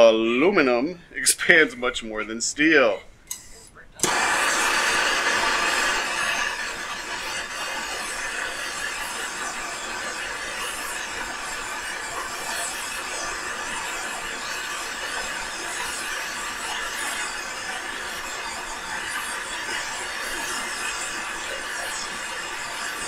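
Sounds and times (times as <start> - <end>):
gas torch flame hissing: 3.3 - 23.0.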